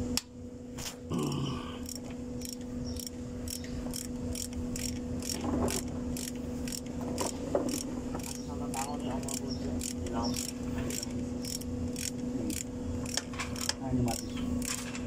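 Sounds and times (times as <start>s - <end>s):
steady low hum: 0.0s - 15.0s
ratchet wrench clicking: 1.8s - 15.0s.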